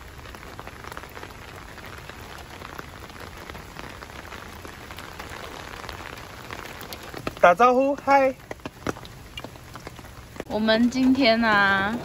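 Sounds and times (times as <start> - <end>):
rain ticking on a car: 0.0 - 12.0.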